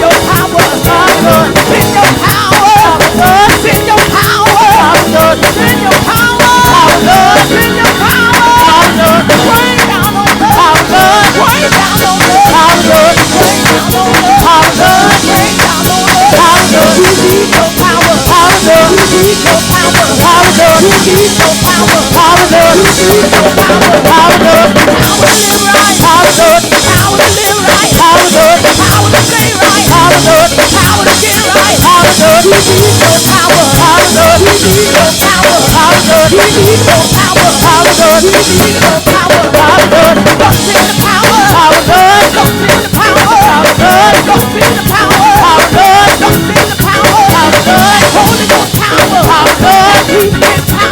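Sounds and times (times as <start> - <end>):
drum kit rapid strikes: 0.0 - 50.9
gospel band playing: 0.0 - 50.9
voices singing: 0.0 - 50.9.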